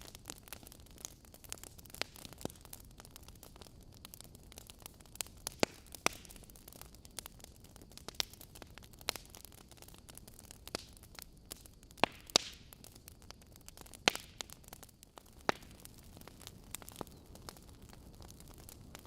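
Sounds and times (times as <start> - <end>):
burning logs crackling: 0.0 - 19.0.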